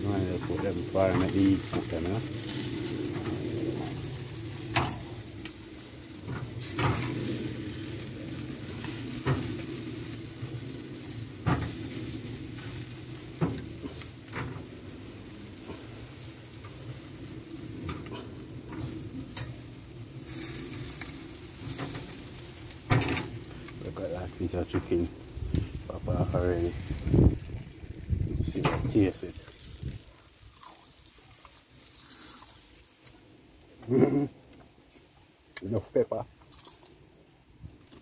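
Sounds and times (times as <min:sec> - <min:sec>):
chicken sizzling on a grill: 0:00.0 - 0:38.0.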